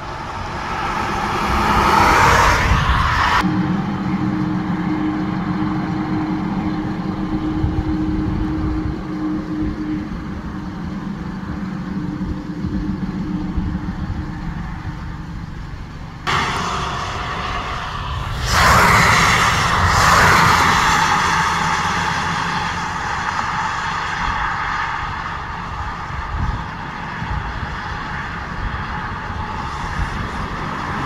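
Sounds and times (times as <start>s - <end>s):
car road noise on highway: 0.0s - 31.0s
faint engine drone: 0.0s - 31.0s.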